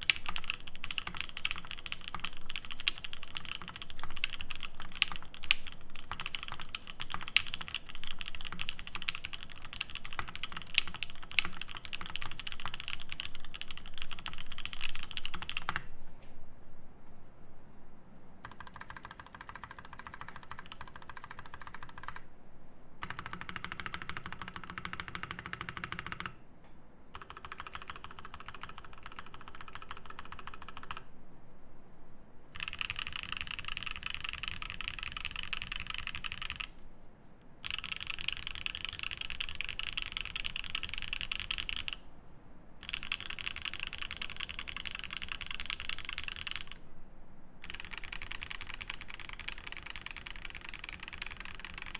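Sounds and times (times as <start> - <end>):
fast mechanical keyboard typing: 0.0 - 15.9, 18.4 - 22.2, 23.0 - 26.4, 27.1 - 31.1, 32.6 - 36.8, 37.6 - 42.0, 42.8 - 46.8, 47.6 - 51.9.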